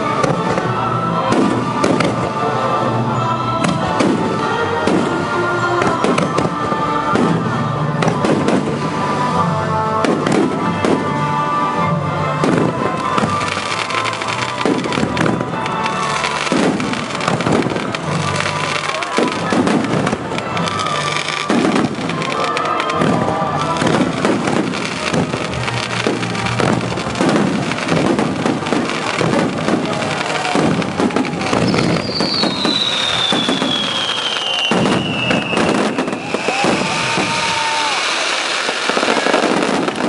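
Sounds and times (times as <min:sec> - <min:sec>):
fireworks bursting: 0:00.0 - 0:11.6, 0:12.3 - 0:40.0
music playing: 0:00.0 - 0:40.0.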